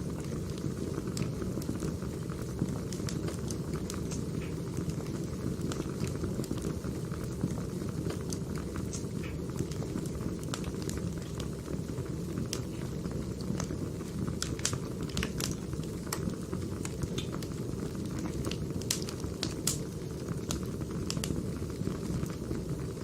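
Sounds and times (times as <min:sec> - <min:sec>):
fire crackles and pops: 0:00.0 - 0:23.0
wood fire rushing: 0:00.0 - 0:23.0.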